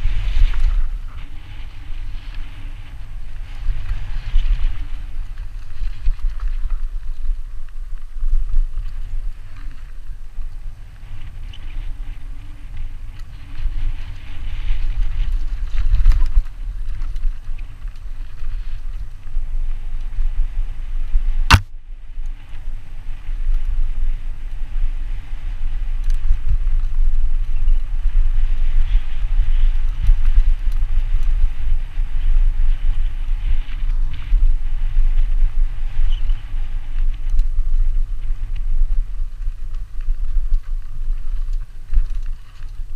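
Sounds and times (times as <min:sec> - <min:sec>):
bike rattling over dirt trail: 0:00.0 - 0:42.9
wind rumble on microphone: 0:00.0 - 0:42.9.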